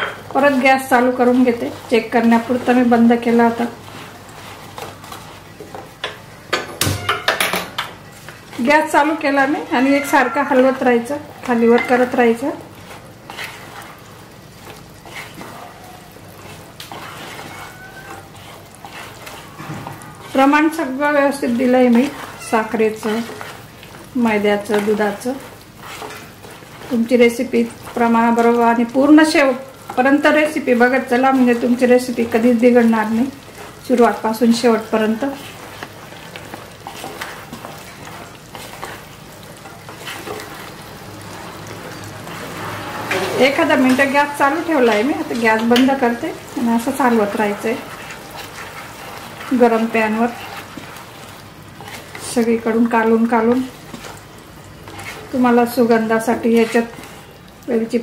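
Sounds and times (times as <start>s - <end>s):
sugar syrup bubbling and sizzling: 0.0s - 58.0s
wooden spatula scraping and knocking pan: 0.0s - 58.0s.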